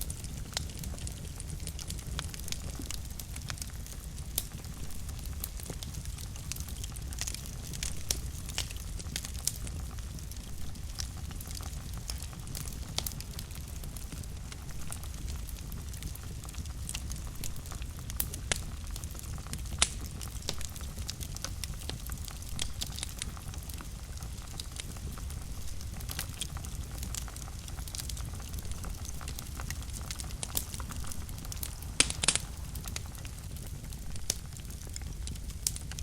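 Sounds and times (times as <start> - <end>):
fire crackling in a fireplace: 0.0 - 36.0.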